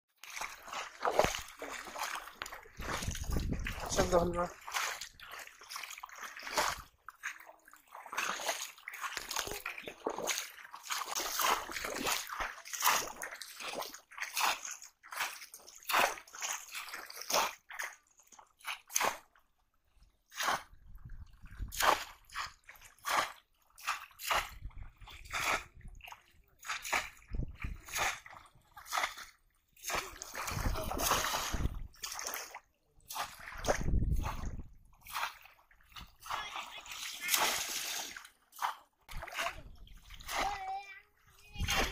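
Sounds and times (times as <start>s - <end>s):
wading through shallow water: 0.1s - 41.9s.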